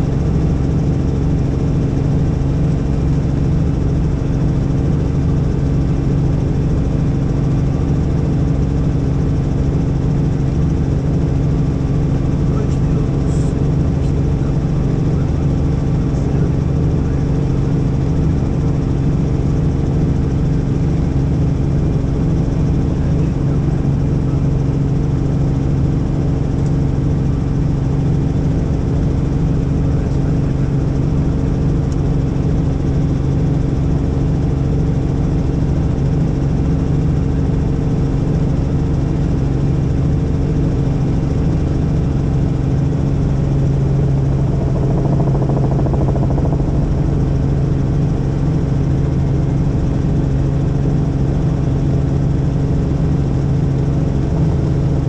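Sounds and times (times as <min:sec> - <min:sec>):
helicopter turbine and rotor drone: 0:00.0 - 0:55.0.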